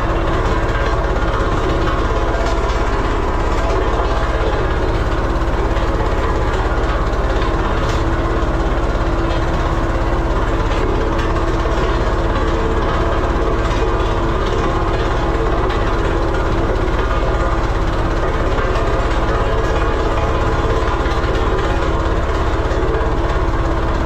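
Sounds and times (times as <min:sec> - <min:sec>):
road roller diesel engine: 0:00.0 - 0:24.0.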